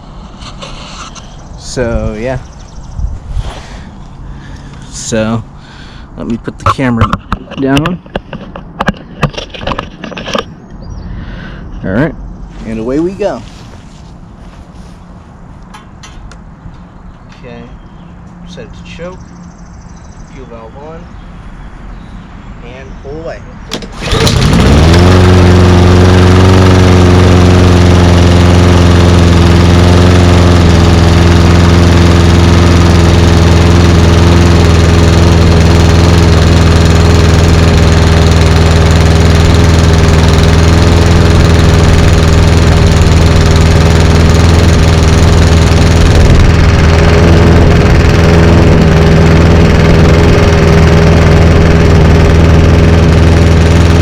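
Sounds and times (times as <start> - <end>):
lawn mower engine running: 0.0 - 22.0, 23.6 - 54.0.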